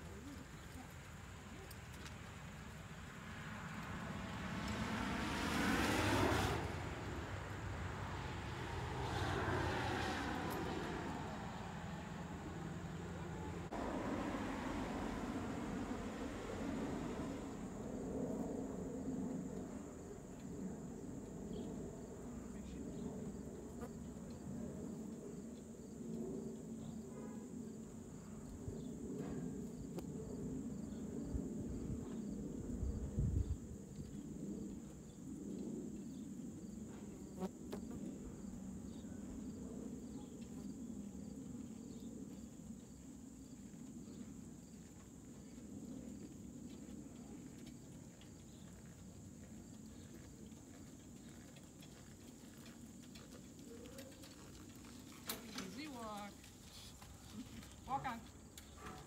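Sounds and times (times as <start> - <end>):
crickets trilling: 2.5 - 59.0.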